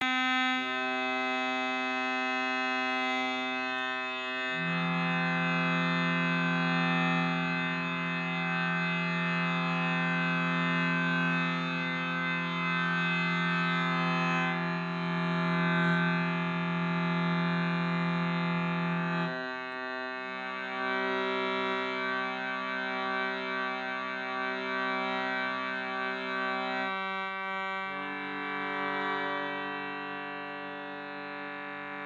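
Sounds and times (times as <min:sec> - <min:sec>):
shruti box reedy drone: 0:00.0 - 0:32.0.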